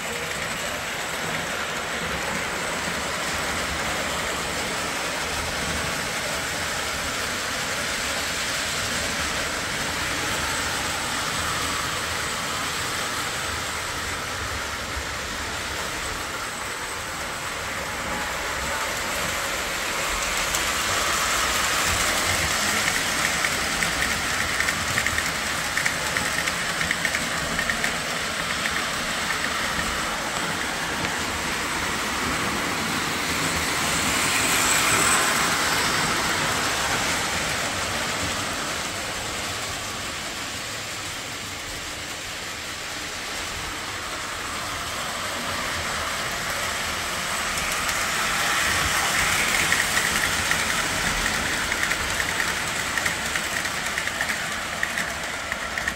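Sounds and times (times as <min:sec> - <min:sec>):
toy train rumbling on track: 0:00.0 - 0:55.9.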